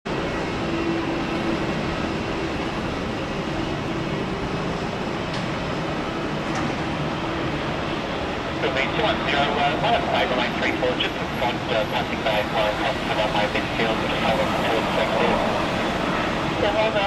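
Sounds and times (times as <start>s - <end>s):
jet engines rumbling: 0.1s - 17.0s.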